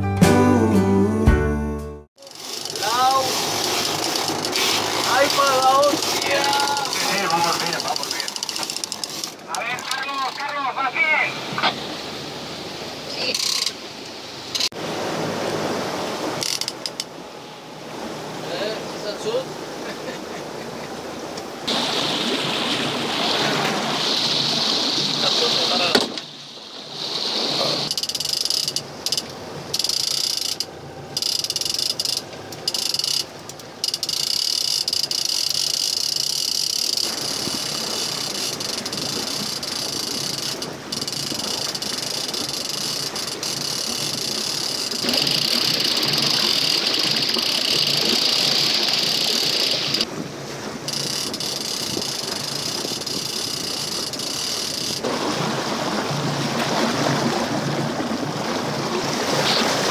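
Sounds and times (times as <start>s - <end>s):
boat wake rushing past hull: 2.2s - 59.9s.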